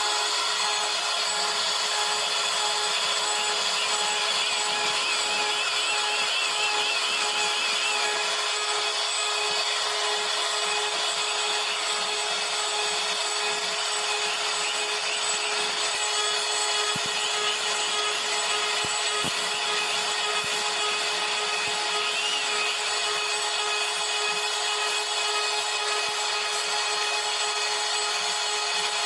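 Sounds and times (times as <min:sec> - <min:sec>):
bit cutting into wood: 0:00.0 - 0:29.0
router spindle whining: 0:00.0 - 0:29.0.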